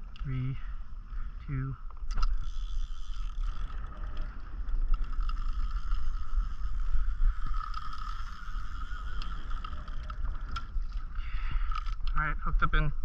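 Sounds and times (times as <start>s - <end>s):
steady thin whine: 0.2s - 12.2s
wind buffeting microphone: 0.8s - 13.0s.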